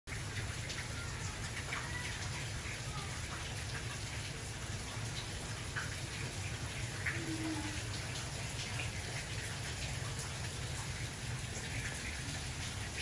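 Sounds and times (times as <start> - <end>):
heavy rain on pavement: 0.1 - 13.0.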